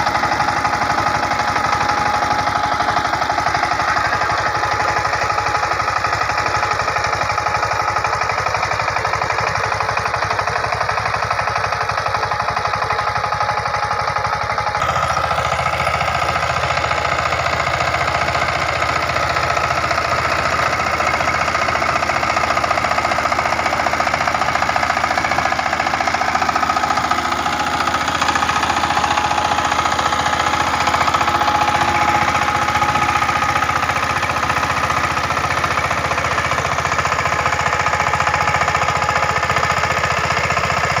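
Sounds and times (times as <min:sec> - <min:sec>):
diesel tiller engine clattering: 0:00.0 - 0:41.0.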